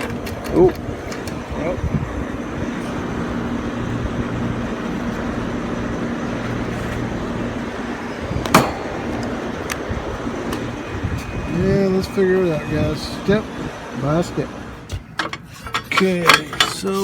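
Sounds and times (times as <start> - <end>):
compressor humming: 0.0 - 17.0.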